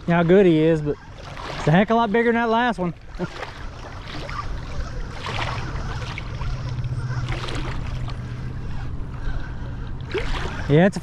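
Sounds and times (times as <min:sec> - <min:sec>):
shallow water splashing: 0:00.0 - 0:09.2, 0:09.8 - 0:11.0
steady low hum: 0:00.0 - 0:11.0.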